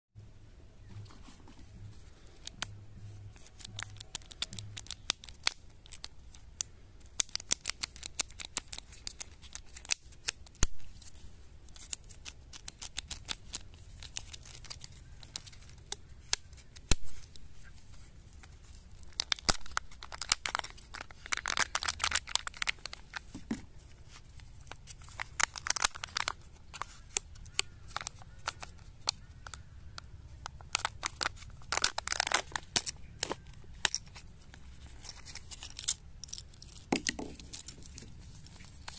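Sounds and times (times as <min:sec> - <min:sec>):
plastic wrapper crinkling: 0:01.8 - 0:38.9.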